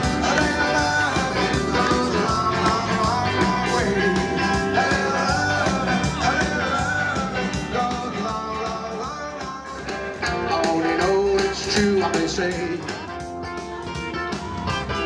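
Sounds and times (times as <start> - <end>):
rock and roll song with singer: 0.0 - 15.0.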